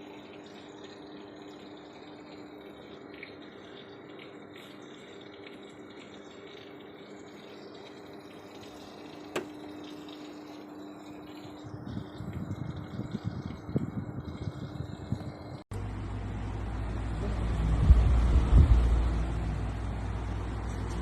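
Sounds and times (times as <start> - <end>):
air cooler fan humming: 0.0 - 21.0
water trickling: 0.0 - 21.0.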